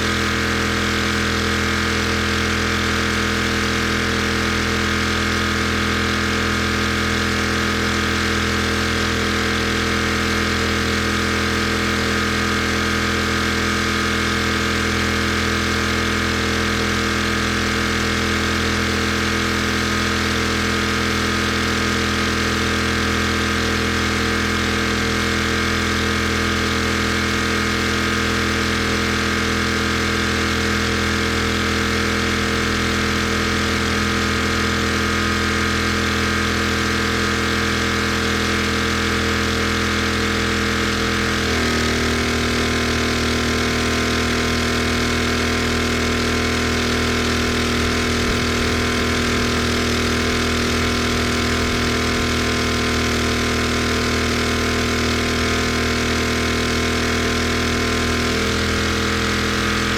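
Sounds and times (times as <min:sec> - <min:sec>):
pressure washer engine droning: 0:00.0 - 0:59.9.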